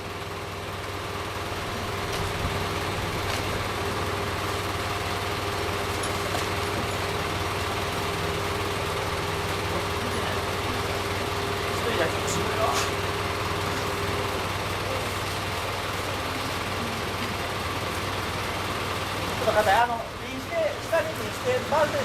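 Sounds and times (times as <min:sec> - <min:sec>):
large engine idling: 0:00.0 - 0:22.0.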